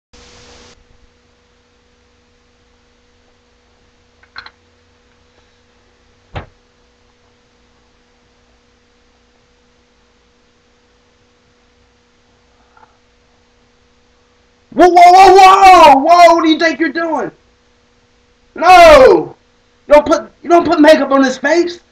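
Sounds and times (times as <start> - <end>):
faint electrical hum: 0.2 - 21.9.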